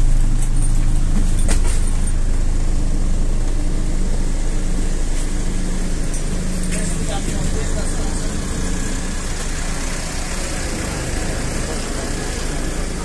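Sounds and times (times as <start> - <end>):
bus diesel engine running: 0.0 - 13.0
road noise: 0.0 - 13.0.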